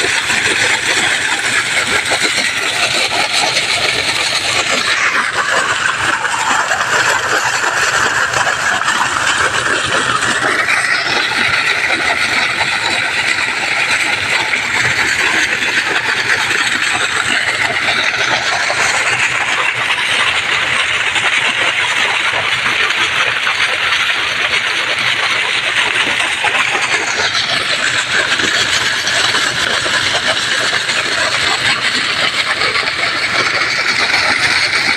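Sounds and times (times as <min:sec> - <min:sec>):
pump motor running: 0:00.0 - 0:34.9
water gushing onto ground: 0:00.0 - 0:34.9.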